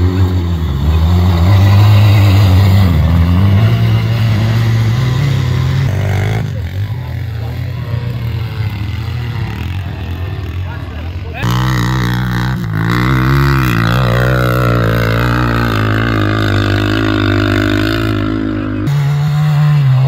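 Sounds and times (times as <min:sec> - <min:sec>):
quad bike engine revving: 0:00.0 - 0:20.0
wheels spinning through snow: 0:00.0 - 0:20.0.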